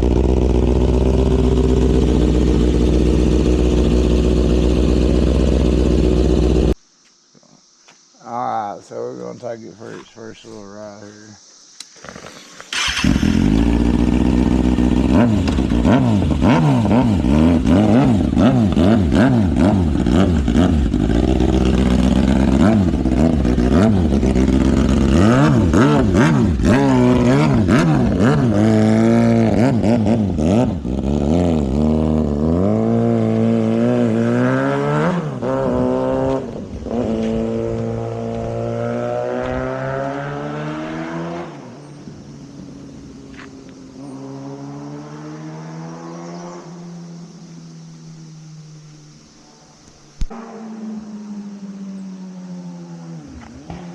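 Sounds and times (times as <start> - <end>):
motorcycle engine revving: 0.0 - 6.8, 11.8 - 49.6, 50.2 - 53.9.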